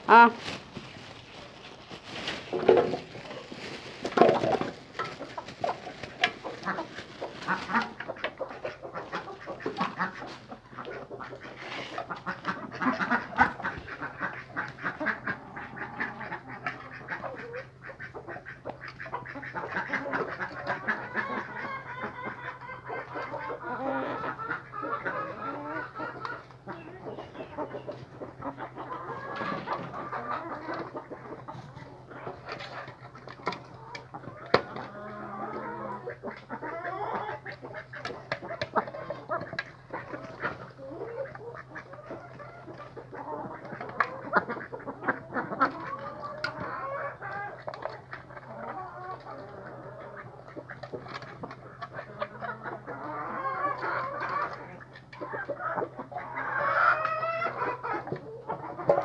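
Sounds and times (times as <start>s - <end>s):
hens clucking: 0.0s - 59.0s.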